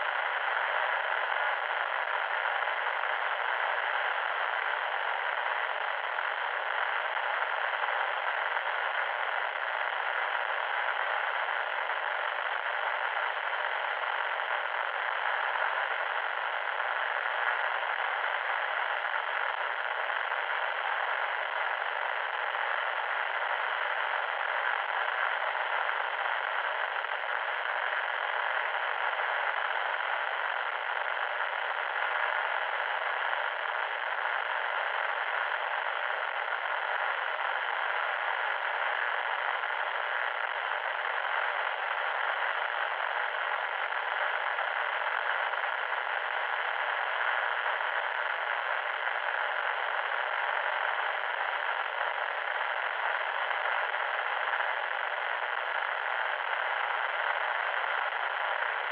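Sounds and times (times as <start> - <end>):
loud static hiss: 0.0 - 58.9.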